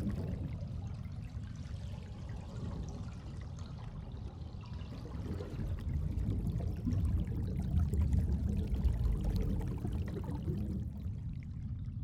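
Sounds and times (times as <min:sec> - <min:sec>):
faint water trickling: 0:00.0 - 0:12.0.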